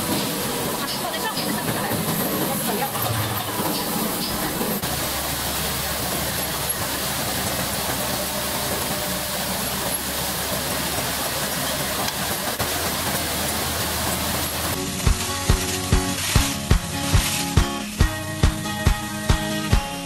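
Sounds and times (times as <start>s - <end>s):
machine hissing and humming: 0.0s - 19.0s.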